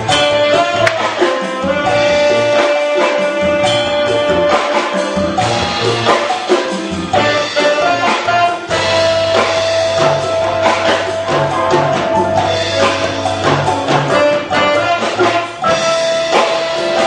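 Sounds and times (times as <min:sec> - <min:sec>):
keyboard: 0:00.0 - 0:17.0
percussion: 0:00.0 - 0:17.0
saxophone melody: 0:00.0 - 0:17.0.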